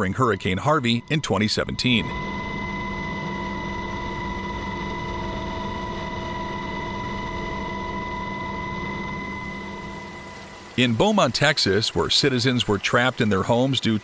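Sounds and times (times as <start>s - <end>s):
engine running with high whine: 0.0s - 12.1s.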